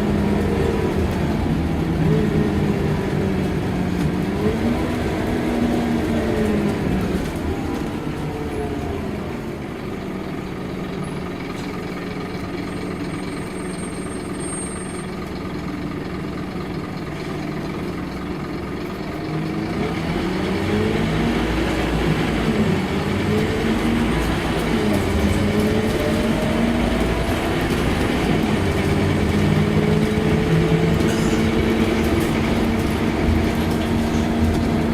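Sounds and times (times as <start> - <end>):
bus diesel engine: 0.0 - 34.9.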